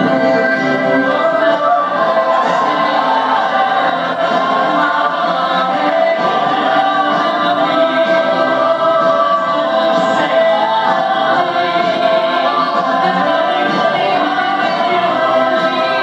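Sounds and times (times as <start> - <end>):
group vocal harmonies: 0.0 - 16.0.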